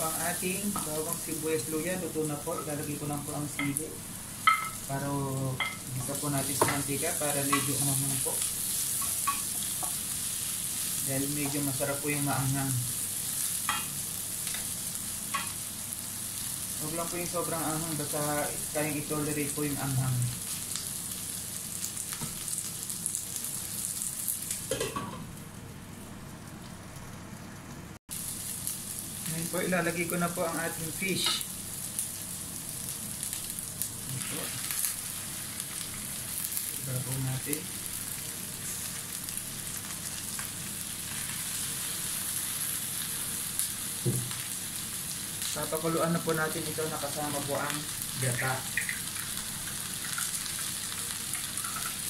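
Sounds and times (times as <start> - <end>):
vegetables sizzling in hot oil: 0.0 - 52.0.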